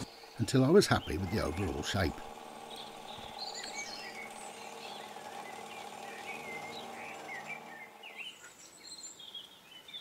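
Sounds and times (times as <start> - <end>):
milling machine humming: 0.0 - 9.0
small birds chirping: 0.0 - 10.0.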